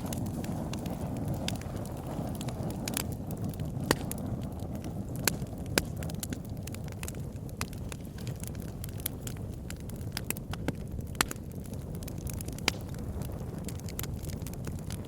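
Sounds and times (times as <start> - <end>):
campfire burning with crackles: 0.0 - 15.0.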